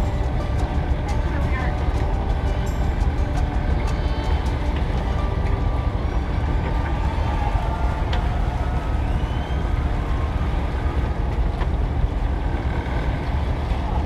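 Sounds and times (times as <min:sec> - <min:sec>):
boat engines rumbling: 0:00.0 - 0:14.0
wind buffeting microphone: 0:00.0 - 0:14.0.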